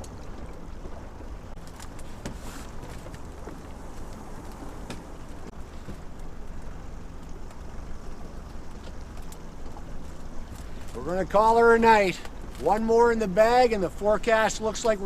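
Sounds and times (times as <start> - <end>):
boat motor running: 0.0 - 15.0
rush of wind and water: 0.0 - 15.0.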